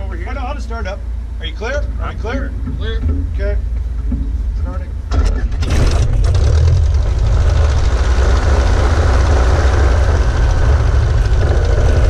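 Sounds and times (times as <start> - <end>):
biplane engine and propeller: 0.0 - 12.0.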